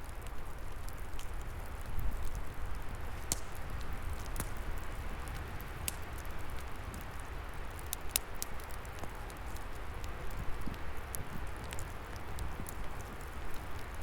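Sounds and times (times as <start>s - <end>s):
log fire crackling and popping: 0.0s - 14.0s.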